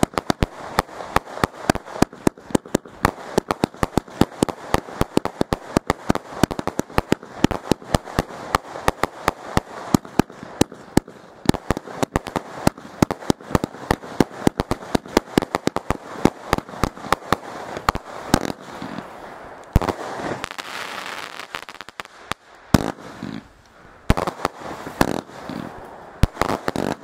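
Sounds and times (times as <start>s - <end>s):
firework cake pops and bangs: 0.0s - 19.0s, 24.1s - 27.0s.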